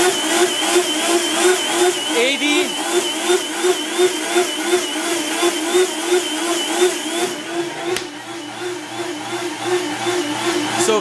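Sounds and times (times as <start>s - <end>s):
blender motor running: 0.0s - 11.0s.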